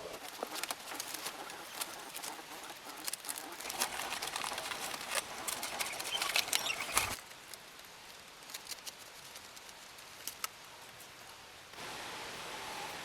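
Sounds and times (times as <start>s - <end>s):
sharp clicks and rustles: 0.1s - 11.0s.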